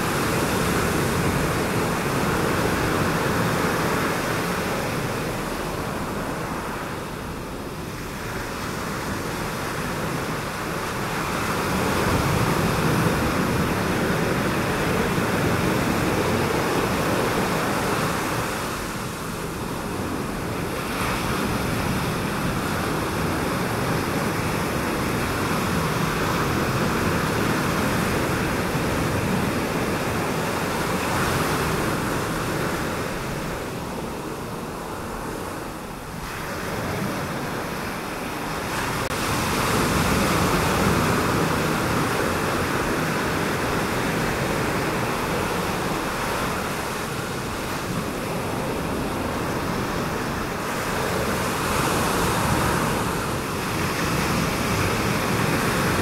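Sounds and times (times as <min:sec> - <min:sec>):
ocean surf breaking over reef: 0:00.0 - 0:56.0
wind: 0:00.0 - 0:56.0.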